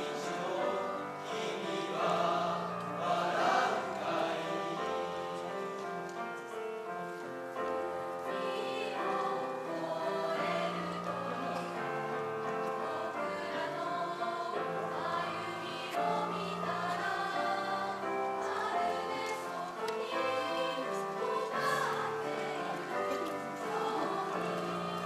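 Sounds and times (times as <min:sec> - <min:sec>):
mixed choir singing: 0:00.0 - 0:06.0, 0:07.8 - 0:25.0.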